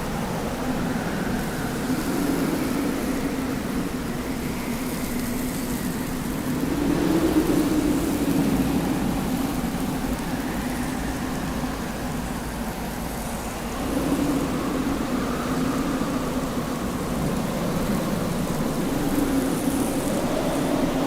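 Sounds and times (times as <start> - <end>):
desert wind howling: 0.0 - 21.0.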